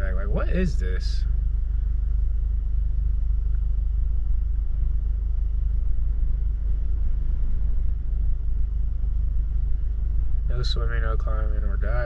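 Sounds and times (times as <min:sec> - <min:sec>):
low rumble inside car: 0:00.0 - 0:12.0.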